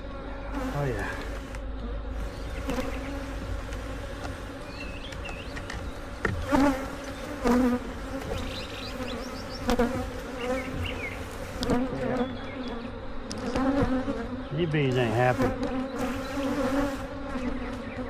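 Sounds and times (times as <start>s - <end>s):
bee flying close past: 0.0s - 18.0s
bees buzzing: 0.0s - 18.0s.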